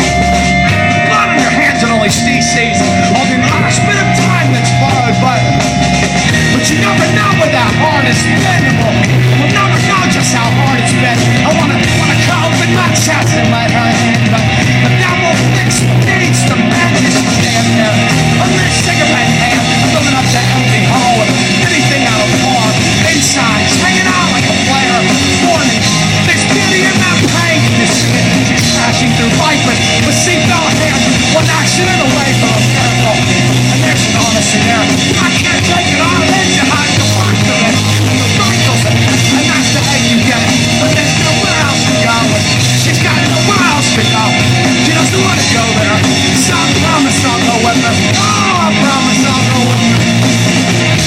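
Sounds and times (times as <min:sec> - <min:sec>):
loud rock band music: 0:00.0 - 0:51.0.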